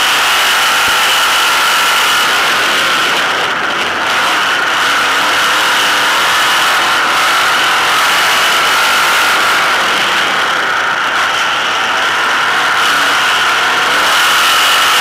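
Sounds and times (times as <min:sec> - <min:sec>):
race car engine running: 0:00.0 - 0:15.0.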